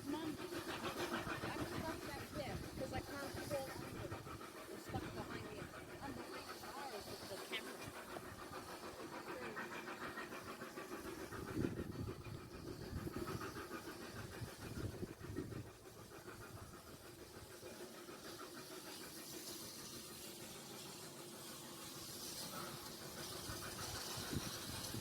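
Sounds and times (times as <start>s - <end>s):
steam hissing: 0.0s - 25.0s
steam locomotive chuffing: 0.0s - 25.0s.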